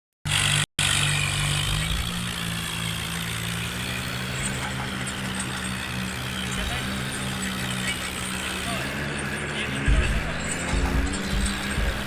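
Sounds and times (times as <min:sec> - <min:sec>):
tractor diesel engine running: 0:00.3 - 0:12.0.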